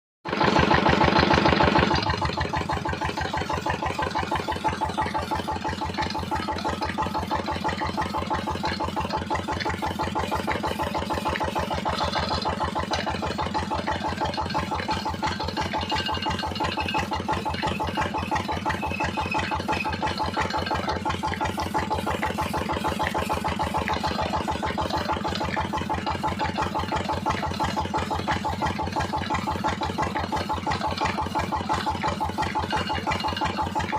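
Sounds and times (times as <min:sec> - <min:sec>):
engine idling: 0:00.2 - 0:33.9.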